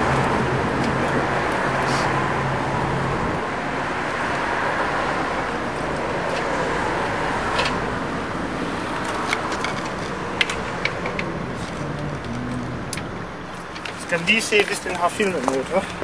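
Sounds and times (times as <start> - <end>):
cars passing on wet road: 0.0 - 16.0.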